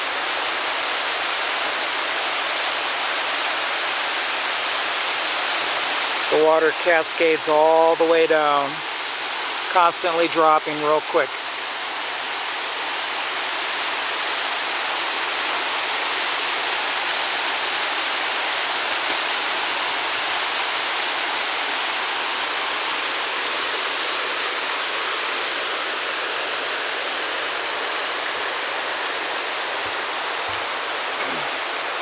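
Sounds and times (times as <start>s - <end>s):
waterfall rushing into a pool: 0.0s - 32.0s.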